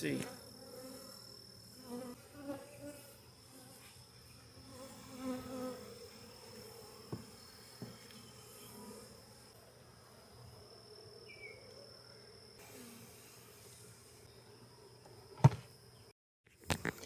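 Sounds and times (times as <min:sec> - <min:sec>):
honeybees buzzing: 0:00.0 - 0:16.1.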